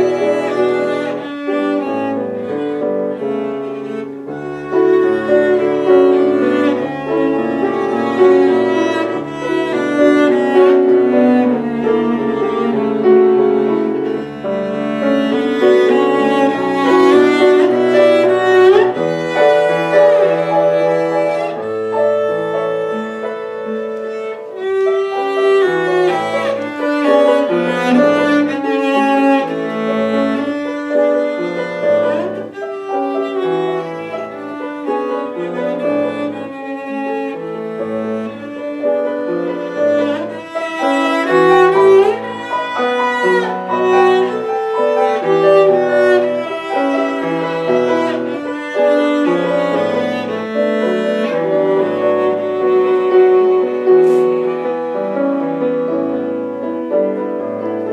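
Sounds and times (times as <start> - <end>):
cello melody: 0.0 - 57.9
piano chords: 0.0 - 57.9.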